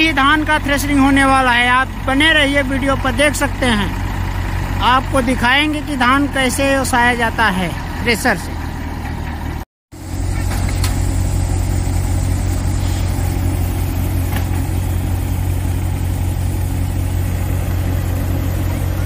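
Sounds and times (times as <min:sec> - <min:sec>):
diesel engine droning under load: 0:00.0 - 0:19.0.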